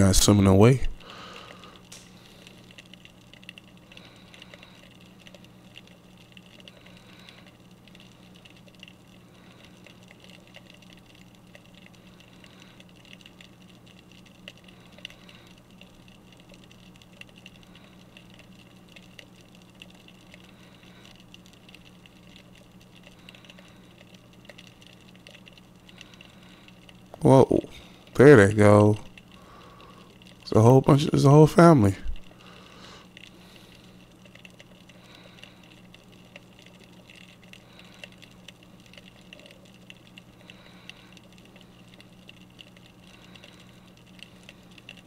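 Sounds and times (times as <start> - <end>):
small clicks and crackles: 0.0 - 45.0
underwater low hum: 0.0 - 45.0.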